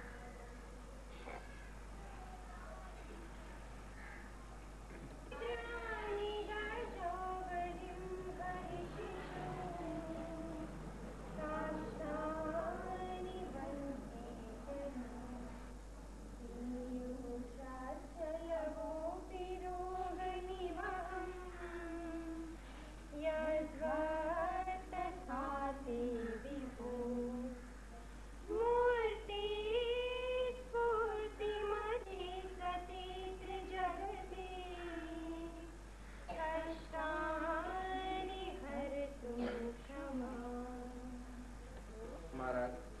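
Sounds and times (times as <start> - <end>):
women singing slow melody: 5.3 - 42.4.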